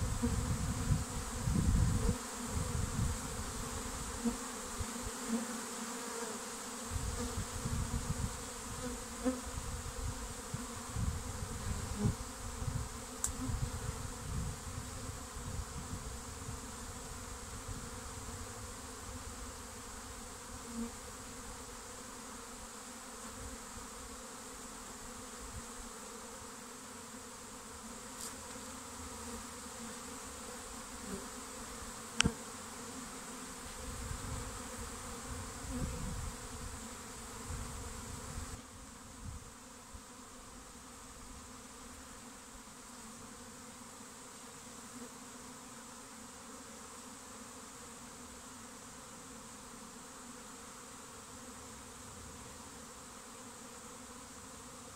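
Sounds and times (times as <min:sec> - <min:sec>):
bee swarm buzzing: 0:00.0 - 0:54.9.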